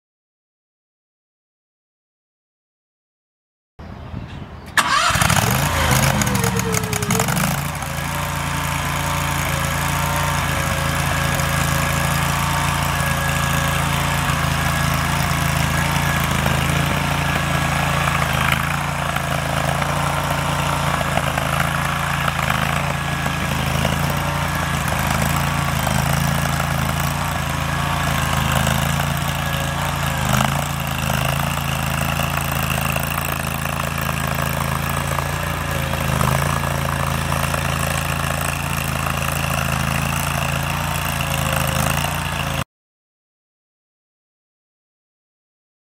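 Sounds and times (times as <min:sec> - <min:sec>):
loader engine running: 0:04.7 - 0:42.6.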